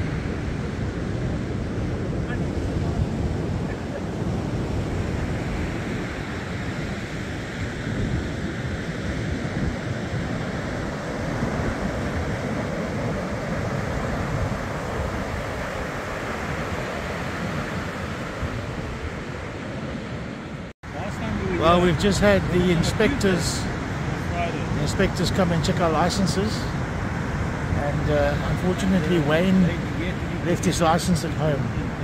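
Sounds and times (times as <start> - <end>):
wind buffeting microphone: 0.0 - 25.8
ocean surf washing onto beach: 0.0 - 32.0.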